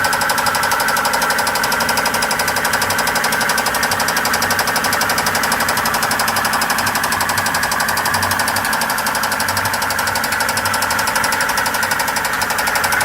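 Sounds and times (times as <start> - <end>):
boat engine with rapid knocking: 0.0 - 13.0.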